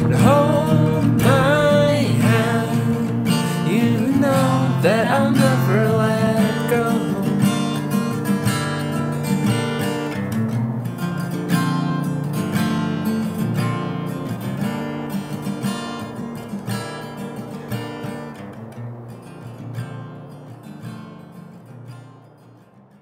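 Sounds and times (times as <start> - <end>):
strummed acoustic guitar: 0.0 - 23.0.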